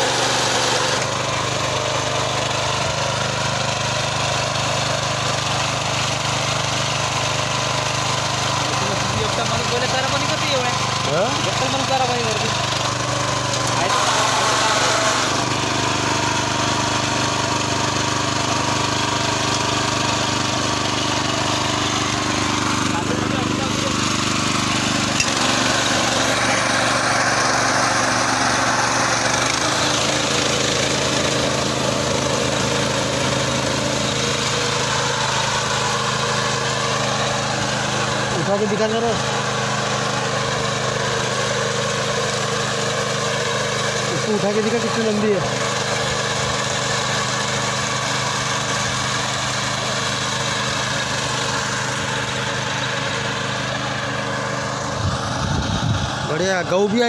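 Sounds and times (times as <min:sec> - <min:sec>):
cutter bar mowing grass: 0:00.0 - 0:57.0
small petrol engine running: 0:00.0 - 0:57.0.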